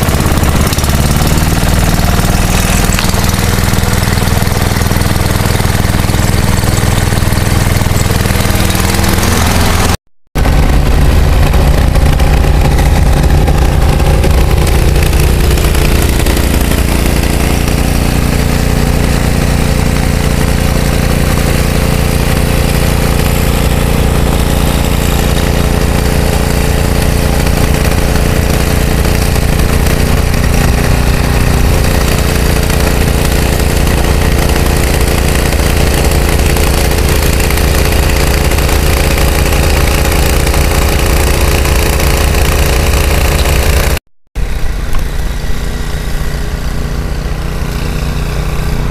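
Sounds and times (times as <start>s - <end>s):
snowblower engine running: 0.0s - 48.9s.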